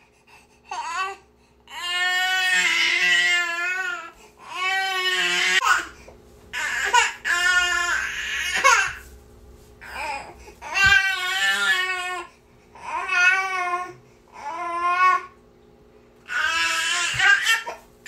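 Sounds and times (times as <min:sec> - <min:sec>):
infant crying: 0:00.7 - 0:05.9, 0:06.6 - 0:09.0, 0:09.8 - 0:15.3, 0:16.3 - 0:17.8.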